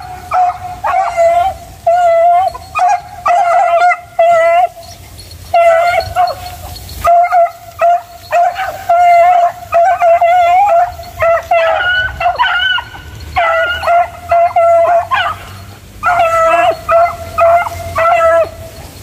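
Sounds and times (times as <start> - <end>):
dog baying: 0.0 - 19.0.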